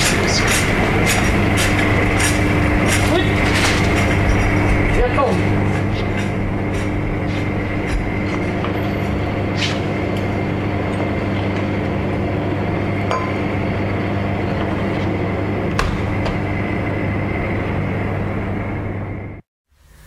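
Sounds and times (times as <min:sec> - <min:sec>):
fridges humming: 0:00.0 - 0:19.4.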